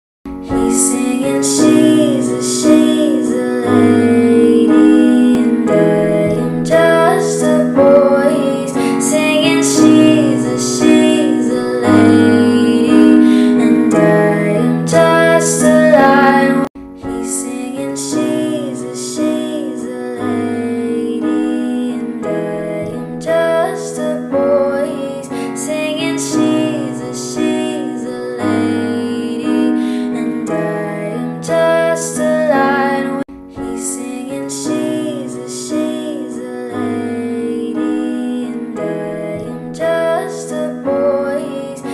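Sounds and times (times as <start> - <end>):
piano: 0.3 - 41.9
woman singing: 0.3 - 41.9.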